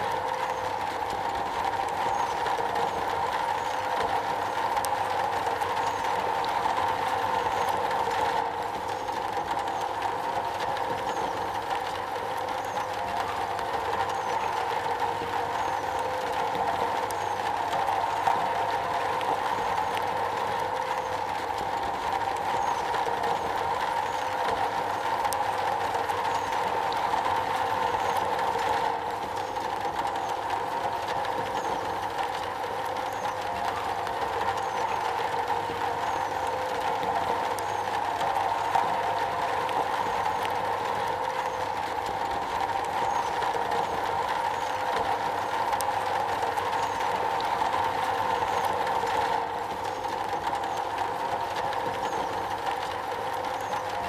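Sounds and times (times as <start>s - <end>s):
rain on a metal roof: 0.0s - 54.0s.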